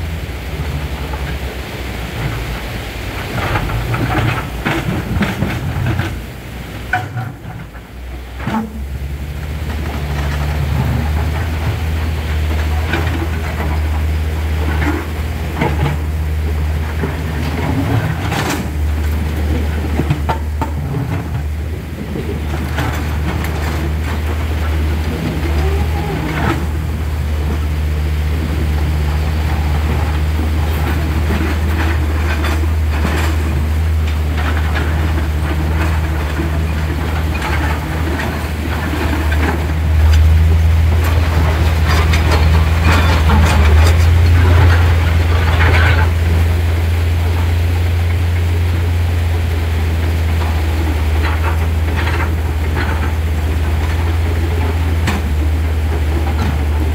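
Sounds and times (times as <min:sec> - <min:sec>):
excavator diesel engines droning: 0:00.0 - 0:56.9
rushing river water: 0:00.0 - 0:56.9
steel buckets knocking on boulders: 0:03.2 - 0:56.9.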